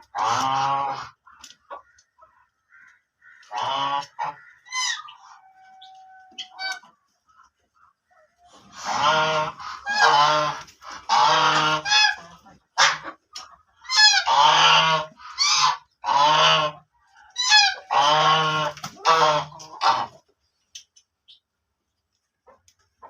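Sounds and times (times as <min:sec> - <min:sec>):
ducks quacking: 0:00.0 - 0:20.4.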